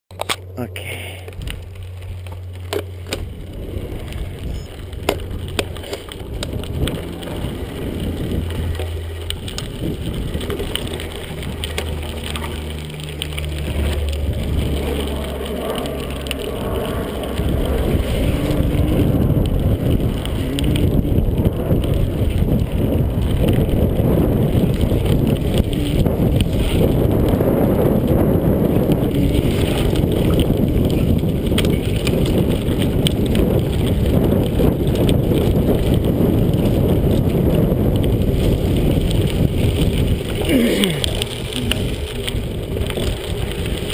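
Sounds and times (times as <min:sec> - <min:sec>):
bike rattling: 0:00.1 - 0:43.9
bike tyres on dirt: 0:00.1 - 0:43.9
wind on microphone: 0:00.6 - 0:43.9.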